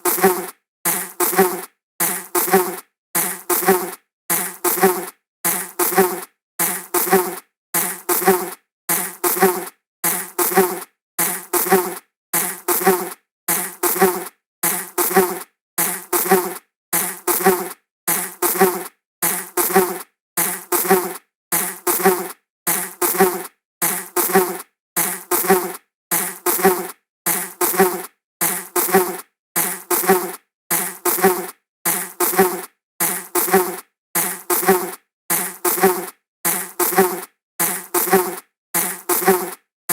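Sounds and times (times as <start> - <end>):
flying insect buzzing: 0.0 - 39.6.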